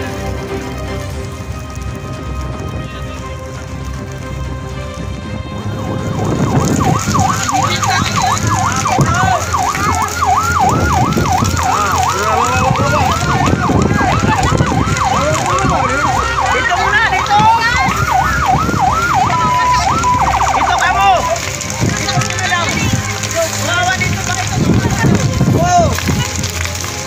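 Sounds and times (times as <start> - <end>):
emergency siren yelping: 1.1 - 27.0.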